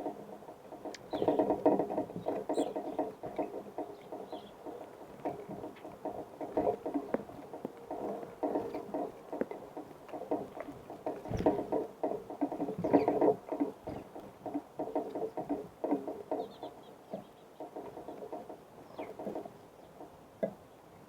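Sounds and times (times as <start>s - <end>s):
birds pecking at seed: 0.0s - 20.2s.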